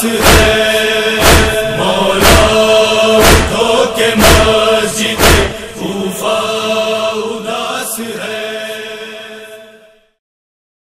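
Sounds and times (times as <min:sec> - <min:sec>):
chorus chanting a drone: 0:00.0 - 0:10.2.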